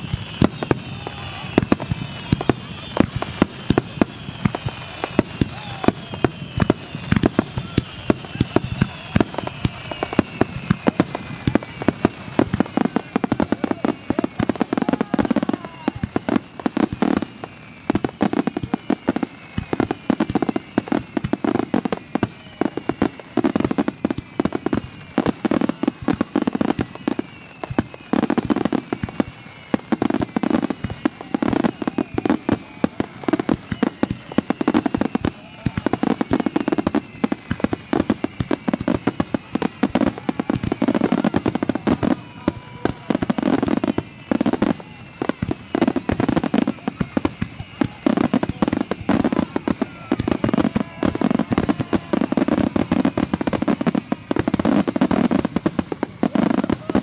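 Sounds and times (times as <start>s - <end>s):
falling firework whistles: 0.0s - 57.0s
fireworks bangs and crackles: 0.0s - 57.0s.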